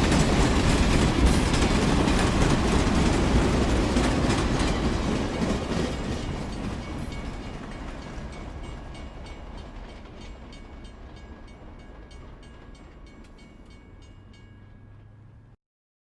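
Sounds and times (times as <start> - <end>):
wheels clicking over rail joints: 0.0 - 15.3
train rumbling: 0.0 - 15.6.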